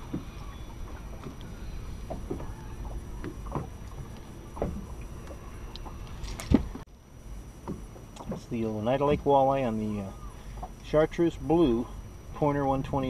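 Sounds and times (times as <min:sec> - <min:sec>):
waves knocking against boat hull: 0:00.0 - 0:06.8, 0:07.5 - 0:11.8
low rumble of wind and water: 0:00.0 - 0:13.0.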